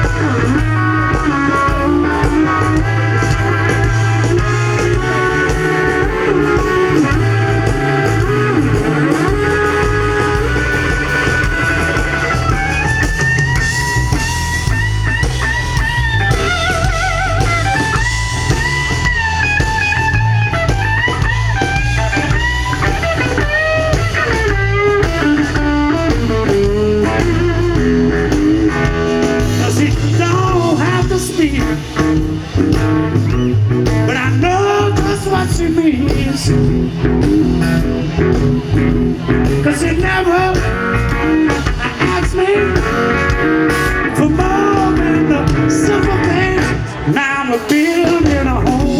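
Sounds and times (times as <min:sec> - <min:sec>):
lead guitar solo: 0:00.0 - 0:34.4, 0:36.5 - 0:48.9
bass and drums: 0:00.0 - 0:48.9.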